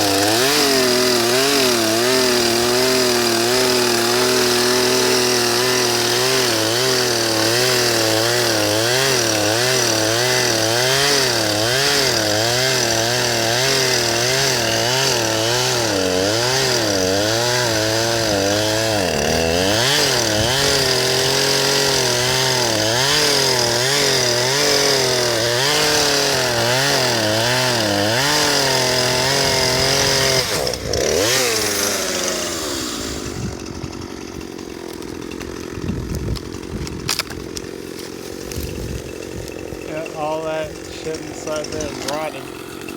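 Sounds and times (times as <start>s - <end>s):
chainsaw engine revving: 0.0s - 42.9s.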